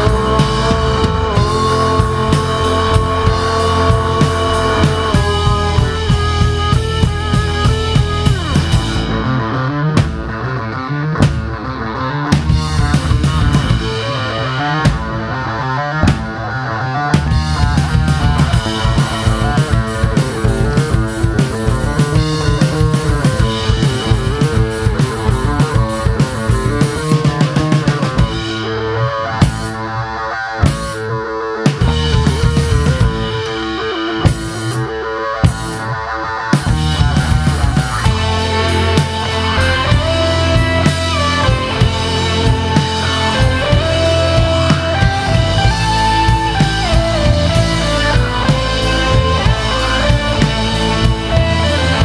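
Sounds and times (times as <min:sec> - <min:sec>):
drum kit beat: 0:00.0 - 0:52.0
electric guitars: 0:00.0 - 0:52.0.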